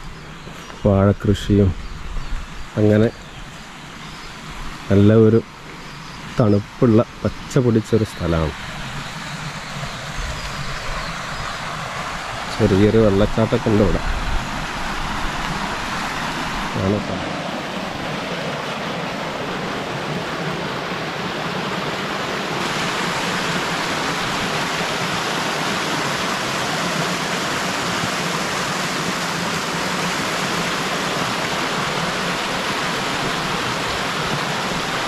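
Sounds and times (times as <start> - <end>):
water rushing over rocks: 2.7 - 35.0.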